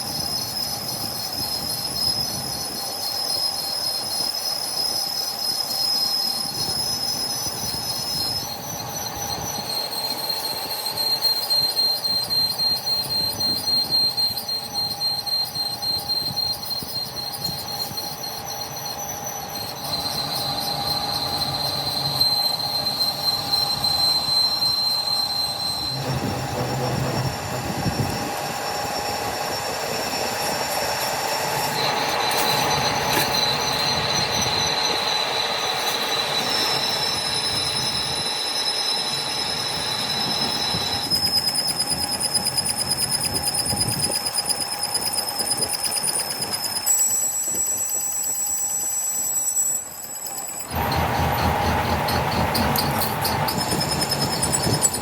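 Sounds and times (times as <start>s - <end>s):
high-pitched metal squeal: 0.0s - 55.0s
metalworking machinery running: 0.0s - 55.0s.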